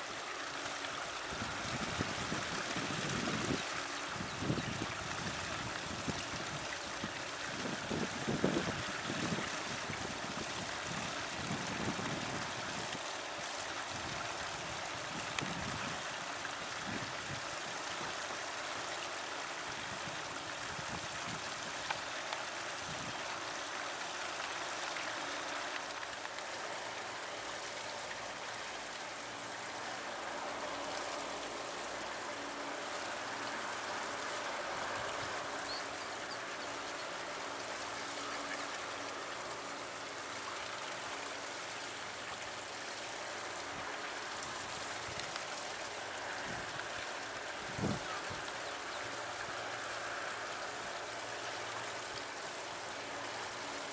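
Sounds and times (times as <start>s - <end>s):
stream water running: 0.0s - 53.9s.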